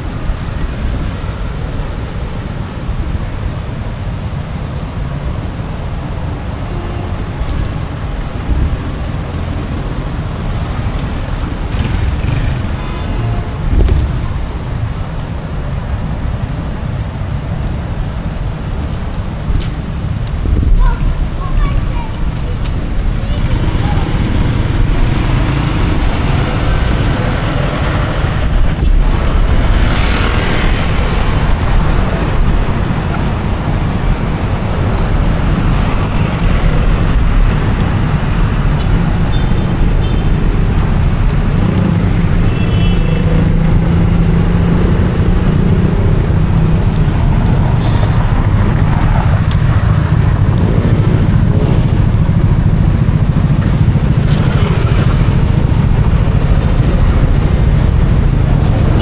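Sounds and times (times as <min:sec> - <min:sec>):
cars and motorcycles passing: 0:00.0 - 0:59.0
low traffic rumble: 0:00.0 - 0:59.0.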